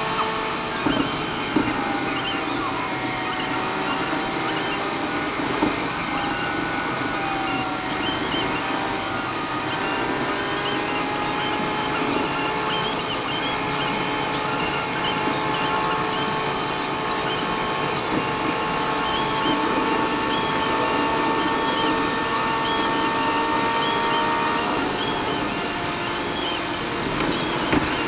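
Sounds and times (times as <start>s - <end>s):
road noise rumbling: 0.0s - 28.0s
vehicle drivetrain whine: 0.0s - 28.0s.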